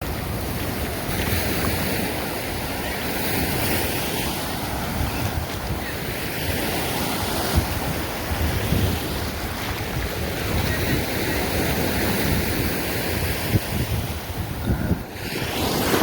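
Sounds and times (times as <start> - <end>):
ocean surf on beach: 0.0 - 16.0
wind buffeting microphone: 0.0 - 16.0.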